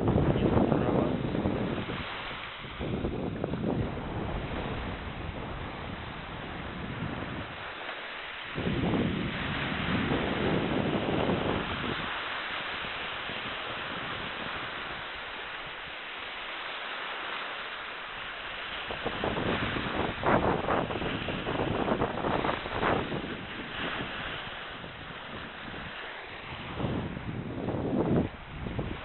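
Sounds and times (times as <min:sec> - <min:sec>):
sea waves breaking on shore: 0:00.0 - 0:29.0
wind noise on microphone: 0:00.0 - 0:29.0.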